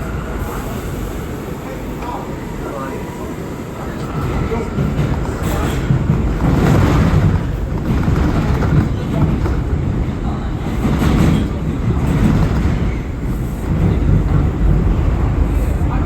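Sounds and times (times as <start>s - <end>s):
subway train wheels rumbling on rails: 0.0s - 16.0s.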